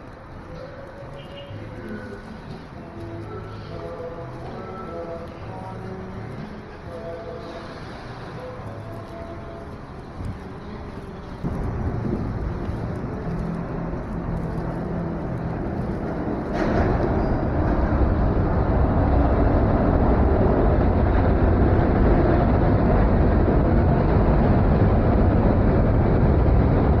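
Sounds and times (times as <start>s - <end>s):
elevated train rumbling: 0.0s - 27.0s.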